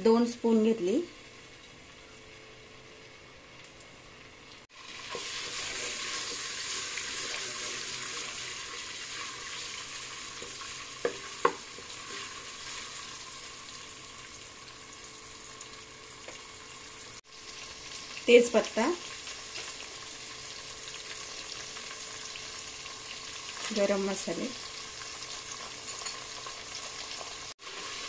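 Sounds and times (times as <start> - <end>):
paste sizzling in hot oil: 4.7 - 28.0.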